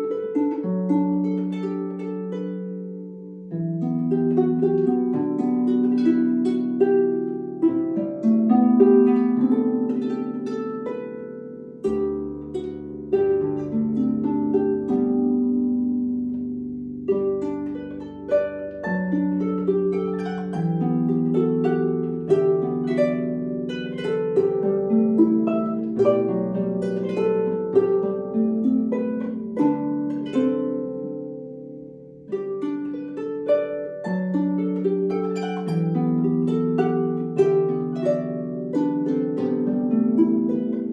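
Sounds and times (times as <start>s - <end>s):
harp playing: 0.0s - 40.9s.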